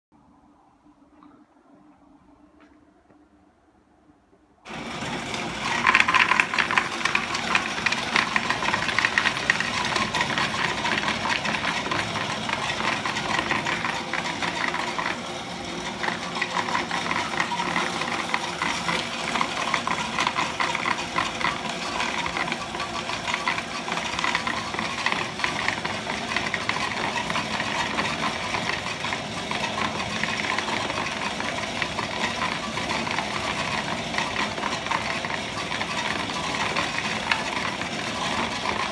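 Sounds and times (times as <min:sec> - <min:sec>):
coin counting machine running: 0:04.7 - 0:38.9.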